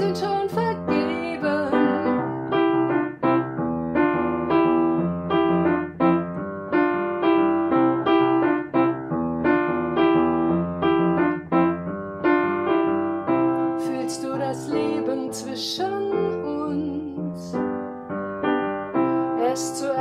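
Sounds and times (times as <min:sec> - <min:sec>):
upright piano chords: 0:00.0 - 0:20.0.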